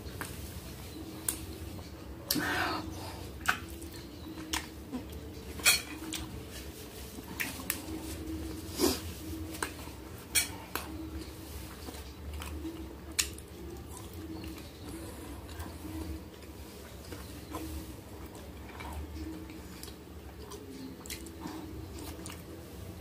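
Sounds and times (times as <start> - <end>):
soft chewing: 0.0 - 23.0
steady low hum: 0.0 - 23.0.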